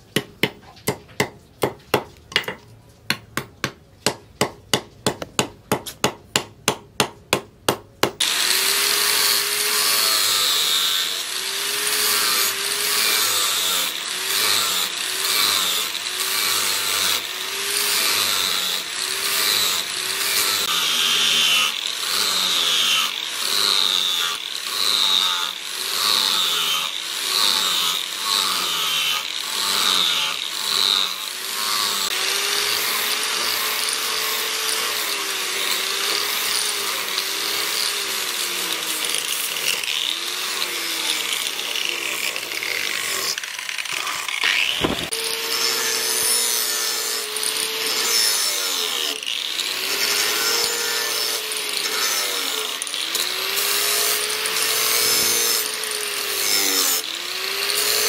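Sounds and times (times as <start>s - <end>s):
angle grinder sanding wood: 8.2s - 58.0s.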